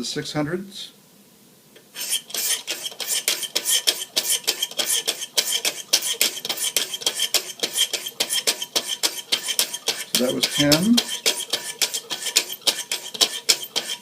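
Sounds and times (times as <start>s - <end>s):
sharpening stone scraping knife: 1.9s - 14.0s.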